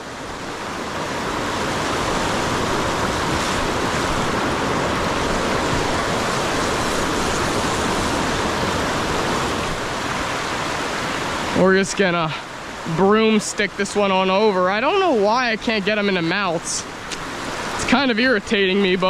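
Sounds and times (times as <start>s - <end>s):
river current rushing: 0.0s - 19.0s.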